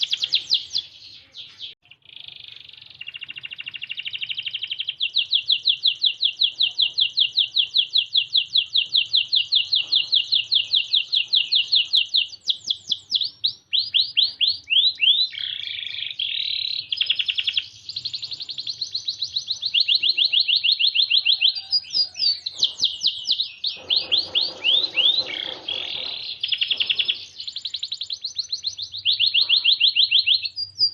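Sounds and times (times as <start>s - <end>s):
canary singing trills: 0.0s - 30.9s.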